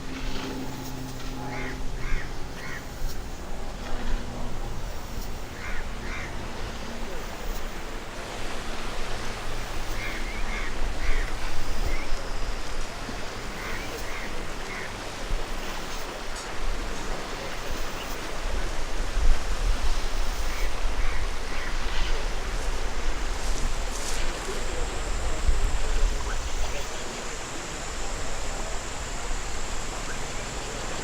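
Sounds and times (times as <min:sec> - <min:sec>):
people calling: 0:00.0 - 0:18.4, 0:21.1 - 0:31.0
low city rumble: 0:00.0 - 0:31.0.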